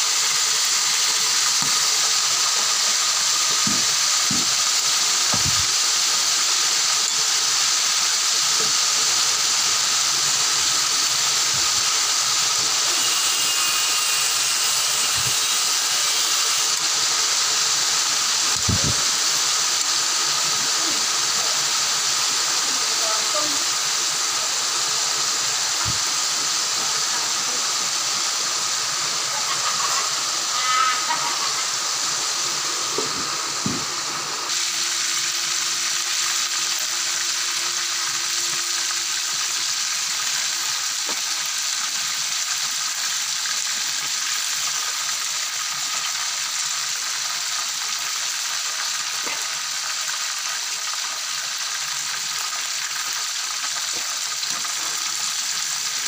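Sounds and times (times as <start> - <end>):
meat sizzling in hot oil: 0.0 - 56.0.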